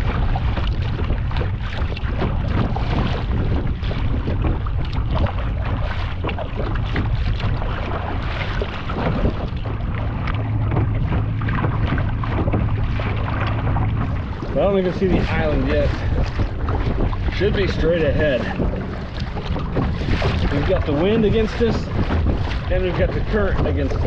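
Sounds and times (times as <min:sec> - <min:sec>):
paddle blades dipping and dripping: 0:00.0 - 0:24.0
water lapping against kayak hull: 0:00.0 - 0:24.0
wind buffeting microphone: 0:00.0 - 0:24.0.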